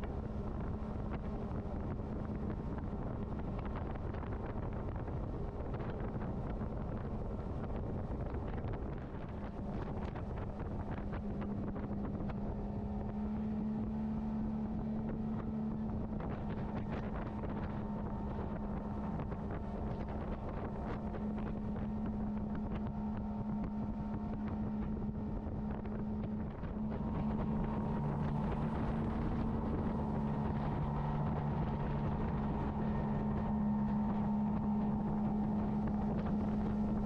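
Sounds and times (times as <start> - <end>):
outboard motor running: 0.0 - 37.0
wind buffeting microphone: 0.0 - 37.0.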